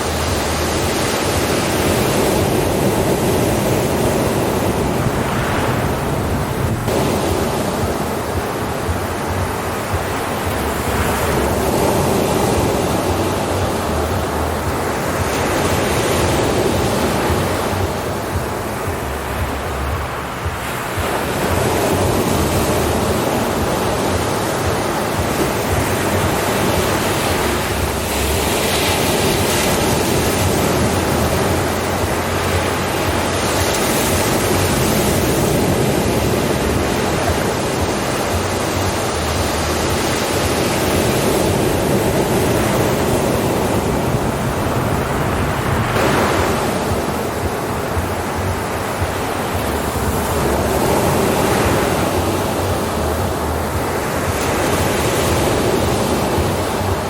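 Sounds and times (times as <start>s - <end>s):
ocean surf waves: 0.0s - 57.0s.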